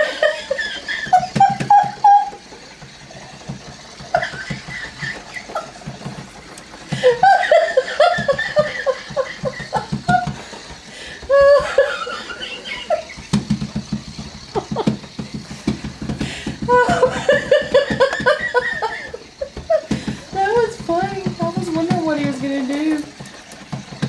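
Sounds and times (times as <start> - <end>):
people laughing: 0.0 - 20.8.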